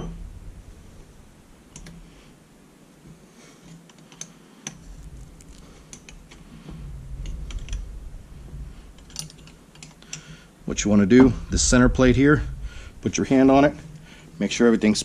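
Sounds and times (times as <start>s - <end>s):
low handling rumble: 0.0s - 2.4s, 4.8s - 15.0s.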